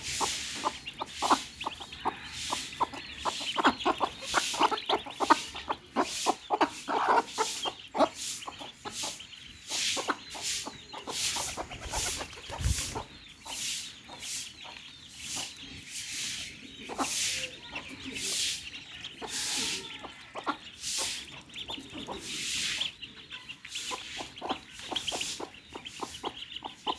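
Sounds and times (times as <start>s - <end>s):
hen clucking: 0.0s - 26.9s.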